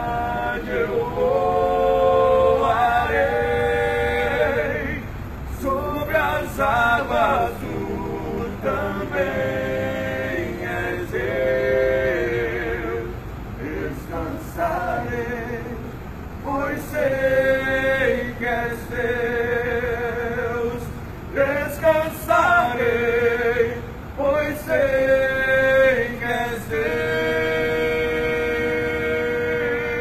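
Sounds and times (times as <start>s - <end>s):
men singing a worship song: 0.0s - 30.0s.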